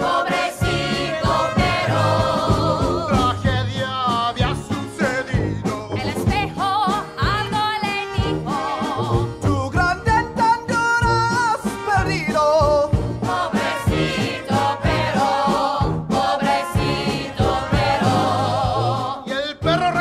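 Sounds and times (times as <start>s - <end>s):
instrumental backing with beat: 0.0s - 20.0s.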